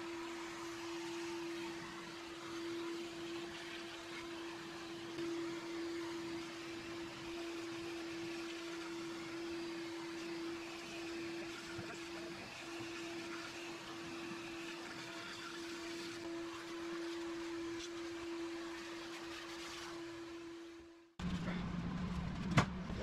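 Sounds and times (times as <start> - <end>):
shop vacuum running: 0.0 - 23.0.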